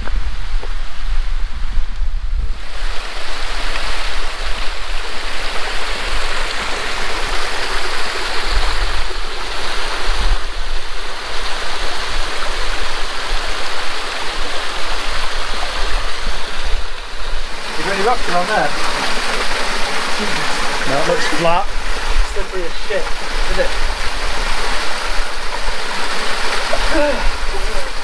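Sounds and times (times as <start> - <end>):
mountain stream rushing: 2.5 - 28.0.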